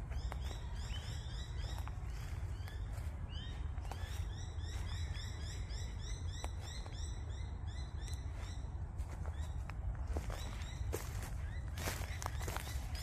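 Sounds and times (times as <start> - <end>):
footsteps on dry leaves: 0.0 - 7.2, 8.2 - 13.0
small birds chirping: 0.0 - 13.0.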